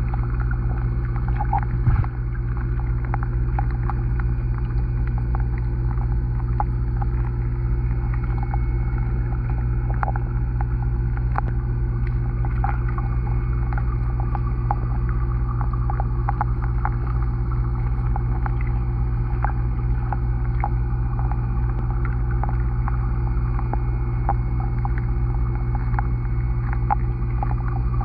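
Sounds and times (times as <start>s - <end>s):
low underwater hum: 0.0s - 28.0s.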